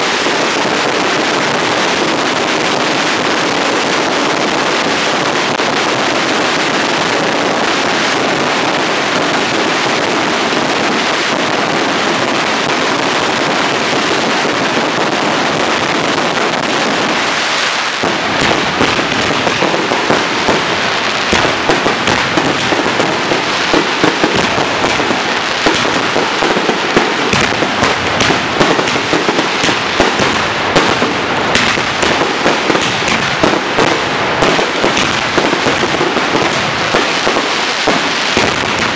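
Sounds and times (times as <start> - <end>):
fireworks bangs and crackles: 0.0 - 38.9
fireworks rushing hiss: 0.0 - 38.9.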